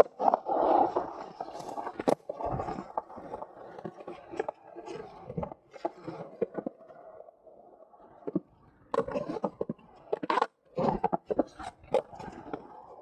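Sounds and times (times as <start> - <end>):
skateboard wheels rolling and scraping: 0.0 - 13.0.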